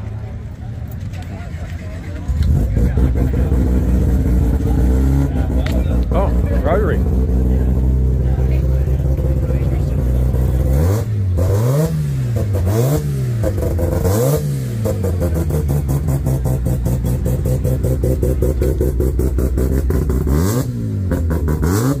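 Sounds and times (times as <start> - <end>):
rotary engine revving and idling: 0.0 - 22.0.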